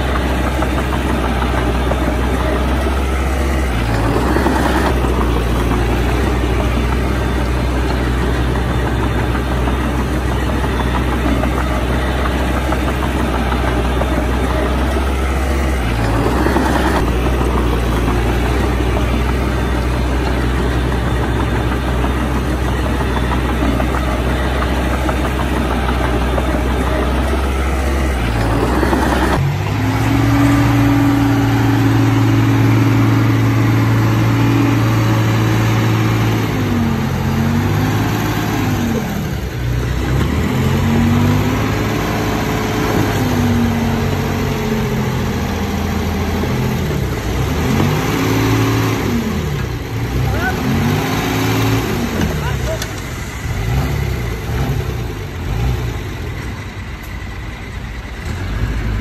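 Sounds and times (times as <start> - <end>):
engine revving under changing load: 0.0 - 59.0
heavy diesel engine running: 0.0 - 59.0.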